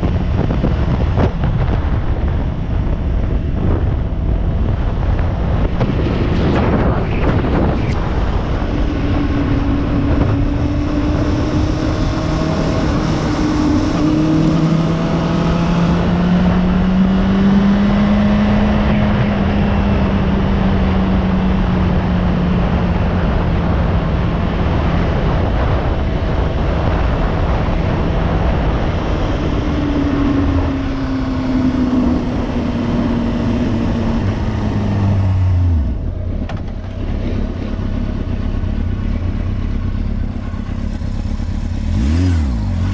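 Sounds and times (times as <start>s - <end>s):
motorcycle engine cruising: 0.0s - 42.9s
wind rush on microphone: 0.0s - 42.9s.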